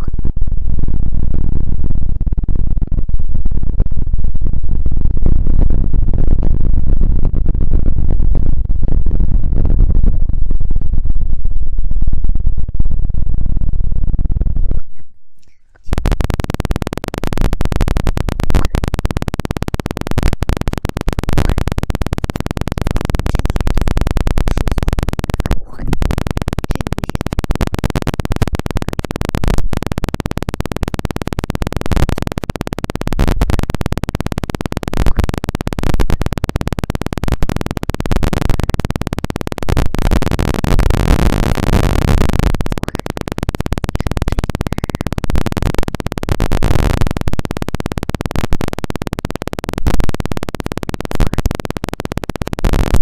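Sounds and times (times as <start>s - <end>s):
crackling and scratching on microphone: 0.0s - 53.0s.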